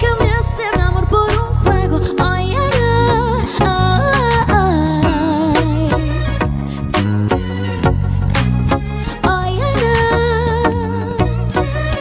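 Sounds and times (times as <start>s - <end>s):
live pop band playing: 0.0s - 12.0s.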